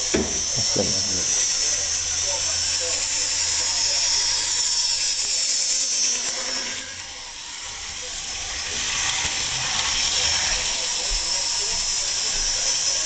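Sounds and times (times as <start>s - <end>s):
model train motor whirring: 0.0s - 13.0s
wheels running on rails: 0.0s - 13.0s.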